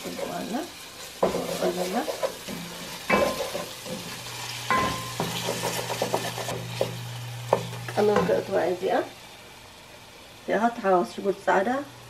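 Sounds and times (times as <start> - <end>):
sauce sizzling: 0.0 - 12.0.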